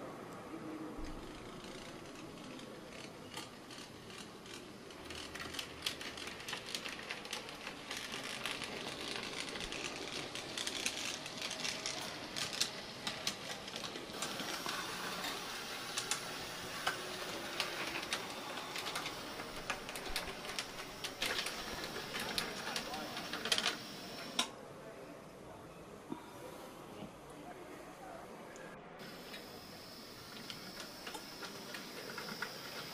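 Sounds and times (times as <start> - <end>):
faint steady whir: 0.1 - 24.5, 28.0 - 32.9.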